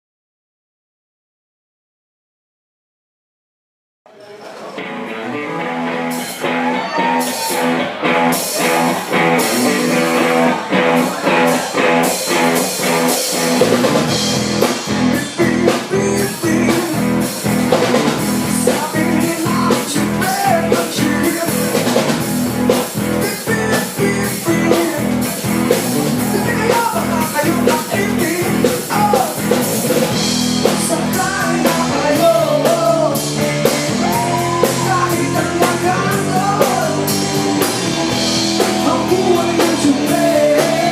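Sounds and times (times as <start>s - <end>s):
rock band music: 4.5s - 40.9s.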